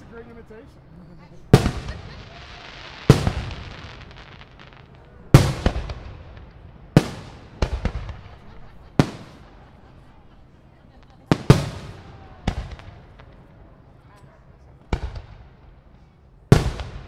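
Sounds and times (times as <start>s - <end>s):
fireworks booming: 0.0s - 14.0s, 14.6s - 17.0s.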